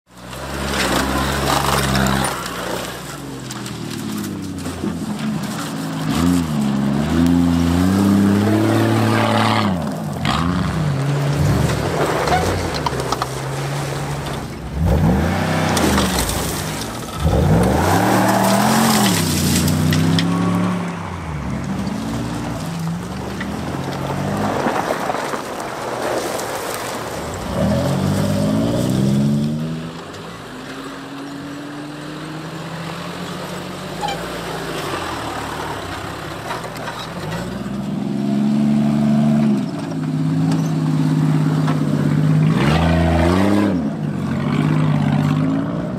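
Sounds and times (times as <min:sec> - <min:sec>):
off-road engines revving: 0:00.1 - 0:45.9.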